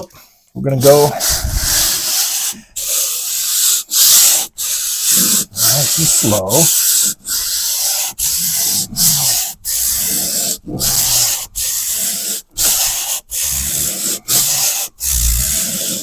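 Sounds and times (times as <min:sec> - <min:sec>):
sandpaper rasping on drywall patch: 0:00.8 - 0:16.0.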